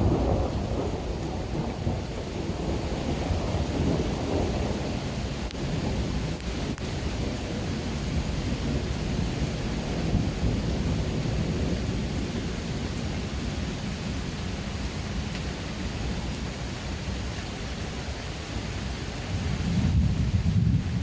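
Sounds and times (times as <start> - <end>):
water rushing with low rumble: 0.0 - 21.0.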